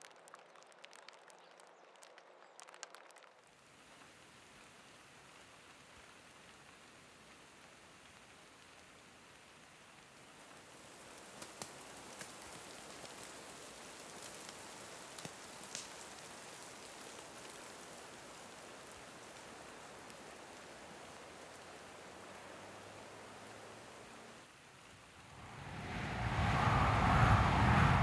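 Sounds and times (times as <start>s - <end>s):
patter of light precipitation: 0.0s - 28.0s.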